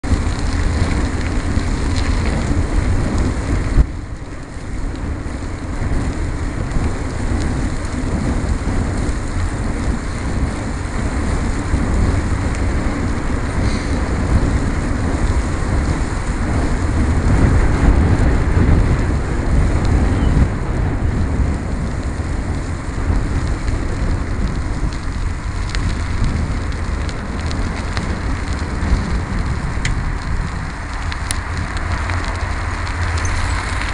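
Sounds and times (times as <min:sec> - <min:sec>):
bicycle tyres rumbling on gravel: 0:00.0 - 0:33.9
wind buffeting microphone: 0:00.0 - 0:33.9.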